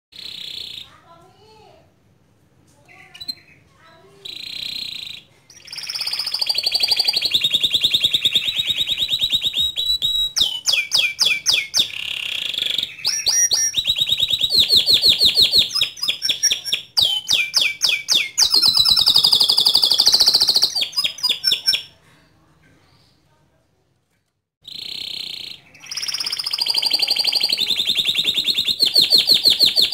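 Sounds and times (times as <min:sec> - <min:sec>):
canary singing trills: 0:00.2 - 0:01.2, 0:02.9 - 0:22.0, 0:24.6 - 0:29.9.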